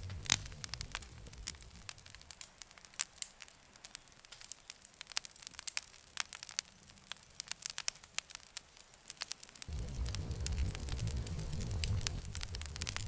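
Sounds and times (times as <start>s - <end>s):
faint hiss: 0.0s - 13.0s
wood fire crackling: 0.0s - 13.0s.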